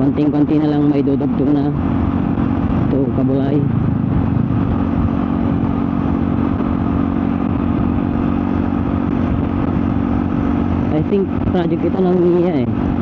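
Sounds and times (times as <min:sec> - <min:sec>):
scooter engine cruising: 0:00.0 - 0:13.0
wind and road noise: 0:00.0 - 0:13.0.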